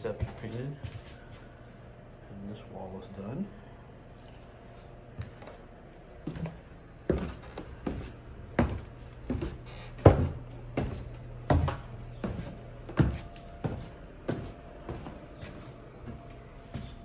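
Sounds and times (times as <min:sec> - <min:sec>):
footsteps indoors: 0:00.0 - 0:01.6, 0:04.2 - 0:17.0
low steady hum: 0:00.0 - 0:17.0.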